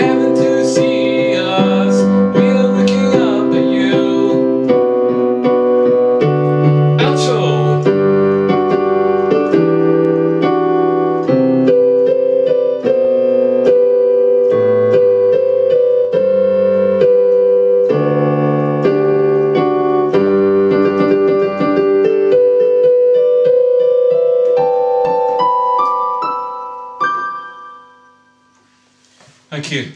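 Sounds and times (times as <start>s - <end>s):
electronic keyboard piano chords: 0.0s - 28.9s.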